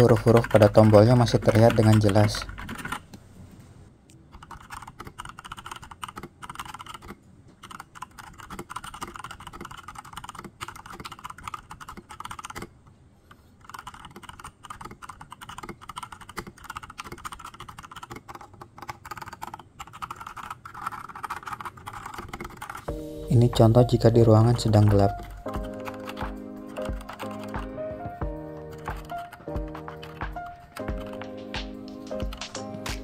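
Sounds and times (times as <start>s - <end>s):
mechanical keyboard key clacks: 0.0s - 3.0s, 4.3s - 12.7s, 13.6s - 22.8s, 24.6s - 33.0s.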